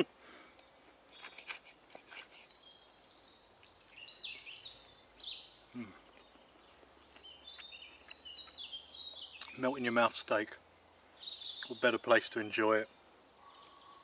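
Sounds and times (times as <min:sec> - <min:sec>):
songbird singing: 0:00.6 - 0:14.0.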